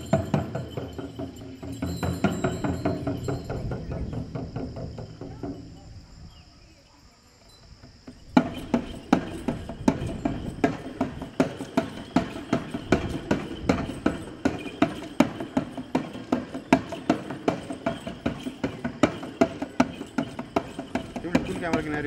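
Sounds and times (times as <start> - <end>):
frame drum beating: 0.0 - 6.0, 8.1 - 22.0.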